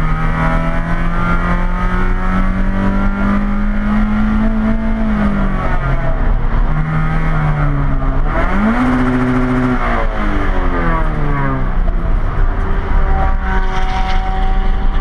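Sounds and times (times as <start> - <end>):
sports car engine: 0.0 - 15.0.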